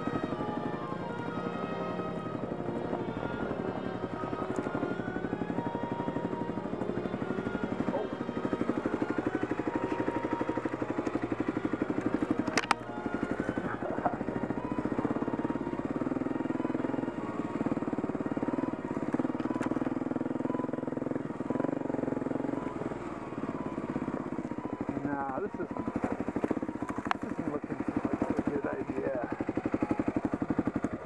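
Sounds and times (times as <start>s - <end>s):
motorcycle engine running at low revs: 0.0s - 31.0s.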